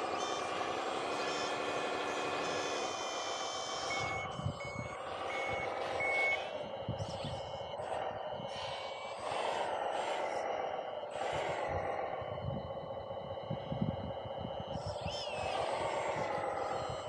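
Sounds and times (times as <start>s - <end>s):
reversing beeper: 0.0s - 17.0s
toy truck motor whirring: 0.0s - 17.0s.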